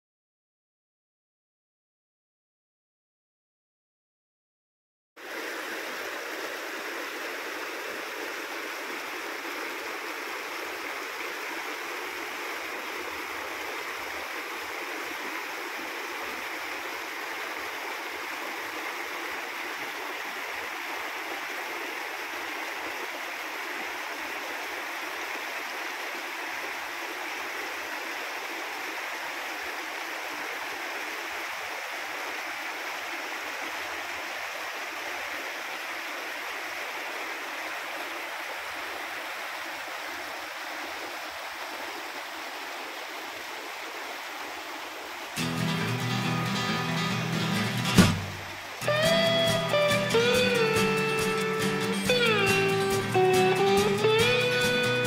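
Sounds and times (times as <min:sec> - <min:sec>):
stream cascading over rocks: 0:05.2 - 0:55.0.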